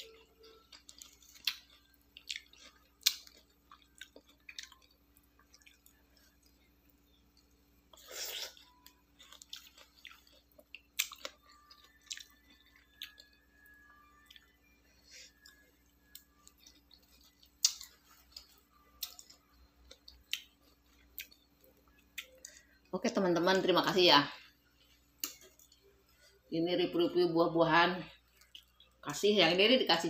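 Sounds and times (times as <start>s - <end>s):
person chewing and crunching: 0.0s - 22.9s, 24.5s - 26.5s, 28.2s - 29.0s.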